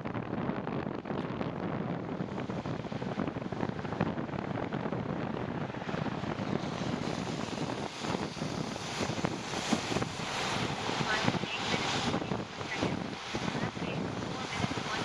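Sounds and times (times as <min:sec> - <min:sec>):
rain: 0:00.0 - 0:15.0
wind buffeting microphone: 0:00.0 - 0:15.0.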